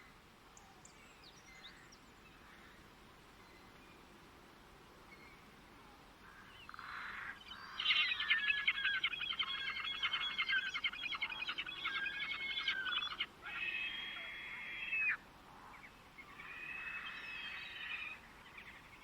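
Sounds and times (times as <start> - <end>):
songbird singing: 0.0 - 4.2, 5.0 - 19.0.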